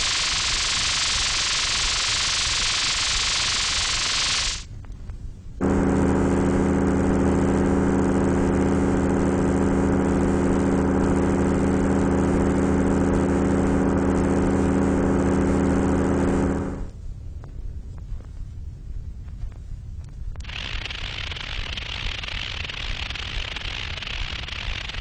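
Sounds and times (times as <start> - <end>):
synthesized low hum with hiss: 0.0 - 24.4.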